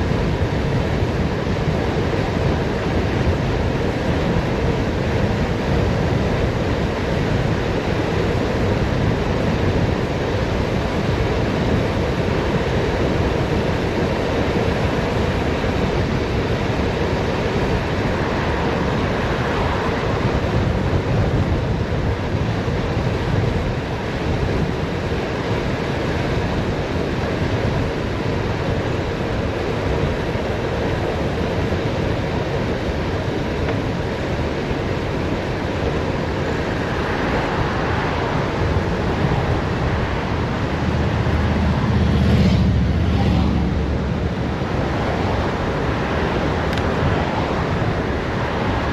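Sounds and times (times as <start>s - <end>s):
wind rushing on microphone: 0.0s - 48.9s.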